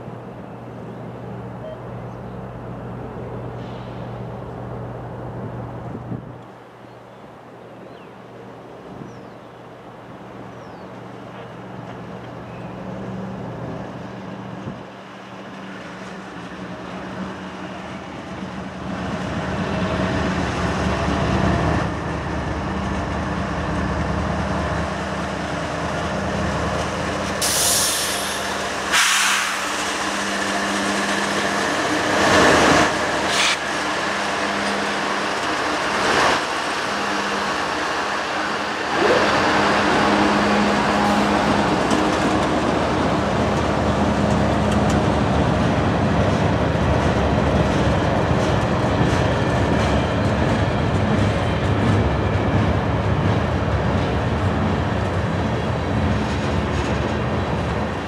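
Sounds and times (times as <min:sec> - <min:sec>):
diesel locomotive engine drone: 0:00.0 - 0:58.0
train wheels rumbling: 0:00.0 - 0:58.0.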